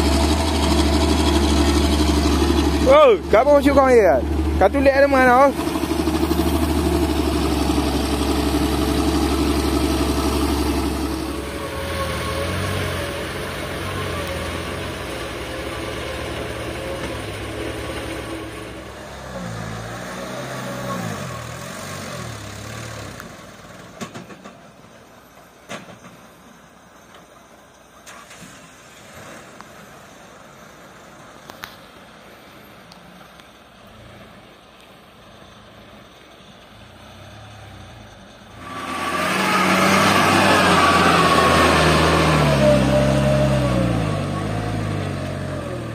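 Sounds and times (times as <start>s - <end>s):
dump truck engine under load: 0.0s - 45.9s.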